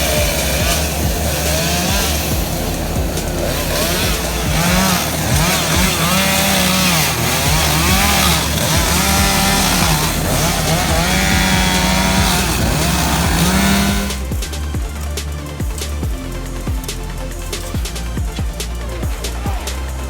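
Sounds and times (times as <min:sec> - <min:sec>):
small petrol engine revving: 0:00.0 - 0:20.0.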